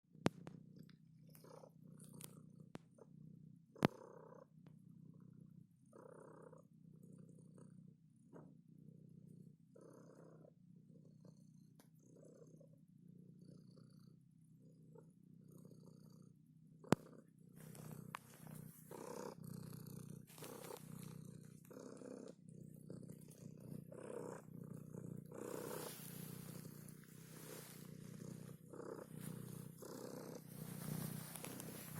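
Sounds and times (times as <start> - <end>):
cat purring: 0.1 - 31.9.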